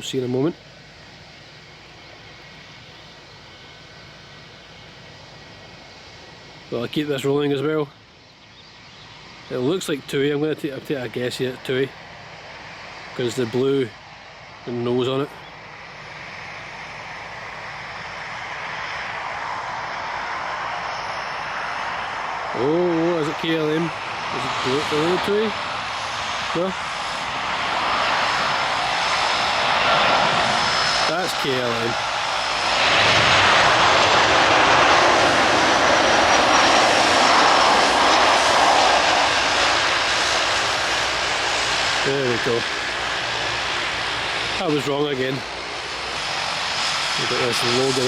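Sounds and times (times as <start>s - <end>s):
airliner engines rushing: 0.0s - 48.0s
faint high whine: 0.0s - 48.0s.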